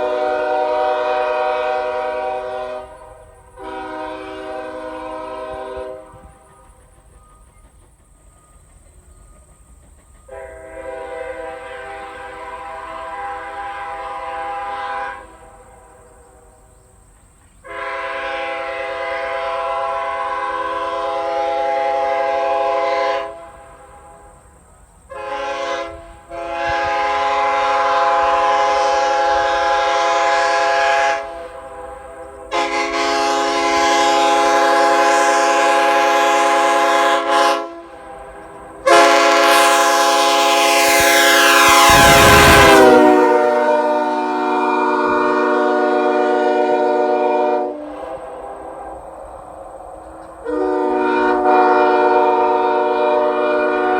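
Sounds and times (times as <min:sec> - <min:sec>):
locomotive air horn blasts: 0:00.0 - 0:06.5, 0:10.3 - 0:16.5, 0:17.6 - 0:24.2, 0:25.1 - 0:49.0, 0:50.4 - 0:53.9.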